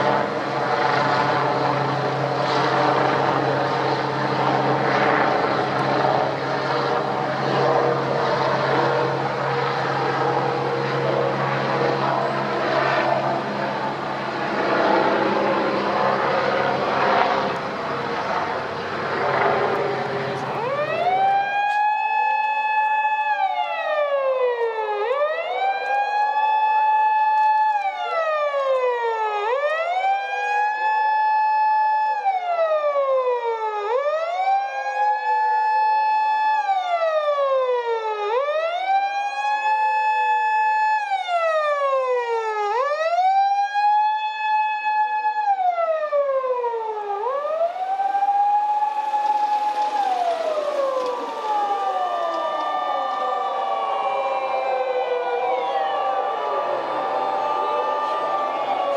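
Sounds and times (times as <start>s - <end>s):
emergency siren wailing: 0.0s - 58.9s
faint second siren: 0.0s - 58.9s.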